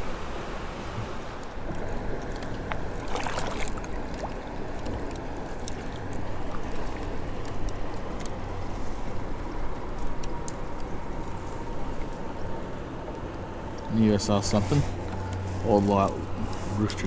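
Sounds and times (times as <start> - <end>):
water splashing: 0.0 - 17.0
water lapping against kayak hull: 0.7 - 17.0.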